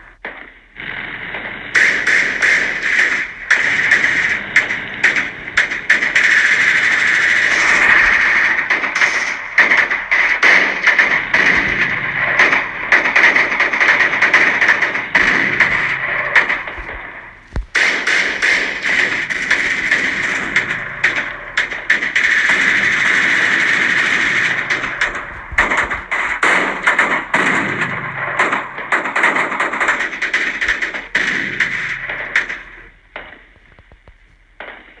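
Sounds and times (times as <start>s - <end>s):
steady noisy battle din: 0.0s - 33.6s
gunfire cracks: 1.8s - 33.4s.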